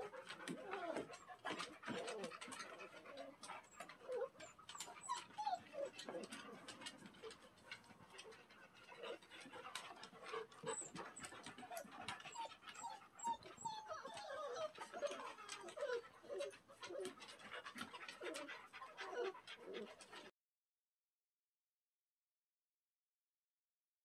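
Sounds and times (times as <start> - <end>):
dogs panting: 0.0 - 20.3
dogs whimpering: 0.0 - 20.3.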